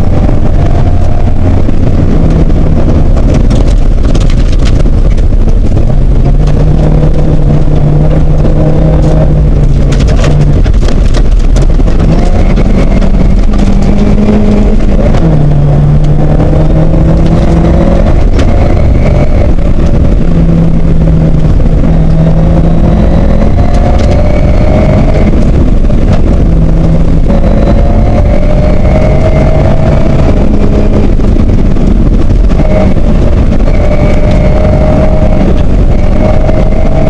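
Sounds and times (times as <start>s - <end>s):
car engine revving: 0.0s - 37.0s
tyres rumbling on gravel: 0.0s - 37.0s.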